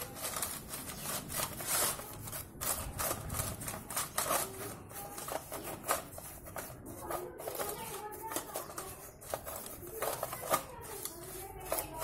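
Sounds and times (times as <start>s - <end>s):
brush scrubbing bicycle chain: 0.0s - 12.0s.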